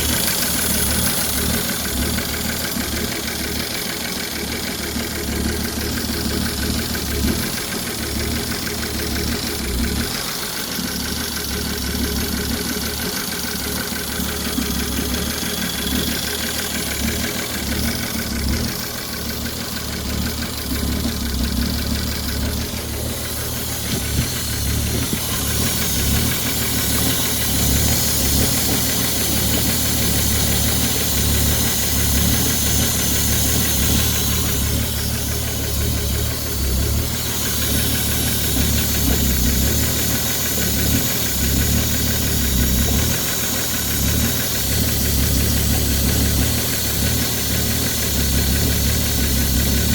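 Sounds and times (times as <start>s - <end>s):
engine running with rapid knock: 0.0s - 49.9s.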